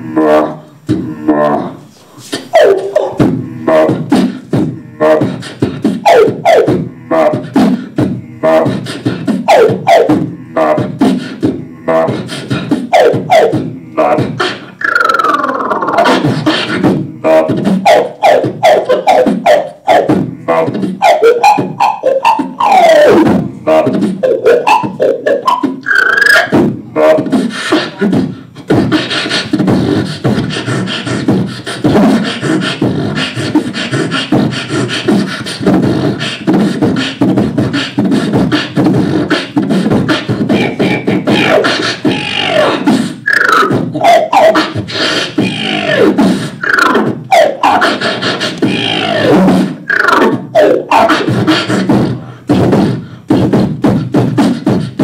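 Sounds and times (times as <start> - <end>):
person beatboxing into a microphone: 0.0 - 55.0.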